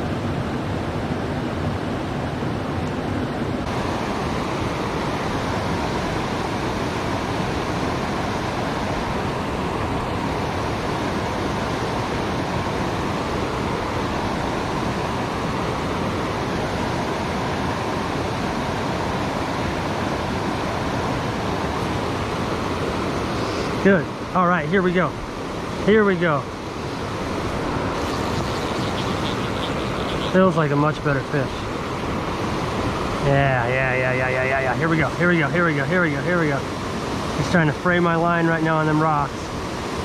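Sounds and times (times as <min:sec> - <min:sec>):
waterfall rushing: 0:03.6 - 0:24.3, 0:25.2 - 0:37.7.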